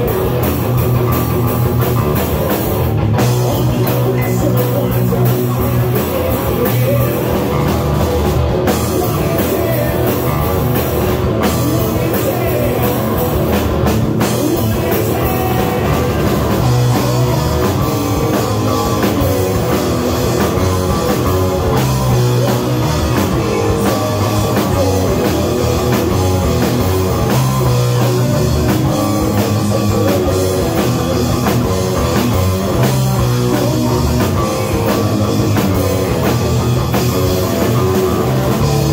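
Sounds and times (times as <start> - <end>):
drum kit: 0.0 - 38.9
electric bass: 0.0 - 38.9
electric guitar: 0.0 - 38.9.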